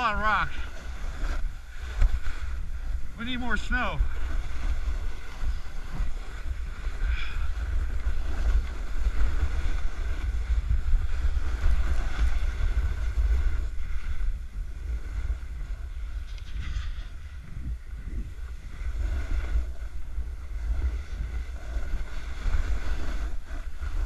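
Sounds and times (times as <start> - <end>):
snowboard scraping on snow: 0.0 - 24.0
wind buffeting microphone: 0.0 - 24.0.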